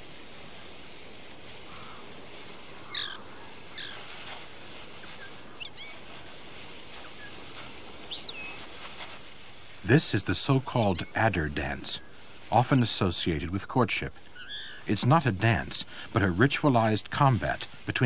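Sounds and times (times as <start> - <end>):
steady background hiss: 0.0 - 18.0
wild birds chirping: 1.5 - 8.8, 9.6 - 17.1.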